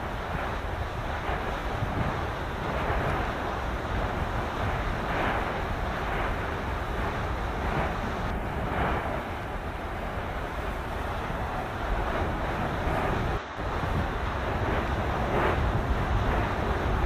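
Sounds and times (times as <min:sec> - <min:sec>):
rumbling roar of steam eruption: 0:00.0 - 0:17.0
rushing noise: 0:00.0 - 0:17.0
wind buffeting microphone: 0:00.0 - 0:17.0.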